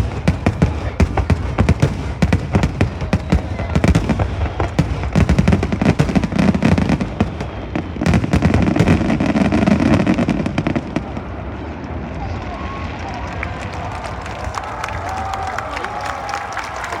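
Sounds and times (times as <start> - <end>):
fireworks bangs and crackles: 0.0 - 15.4
rumbling of fireworks: 0.0 - 17.0.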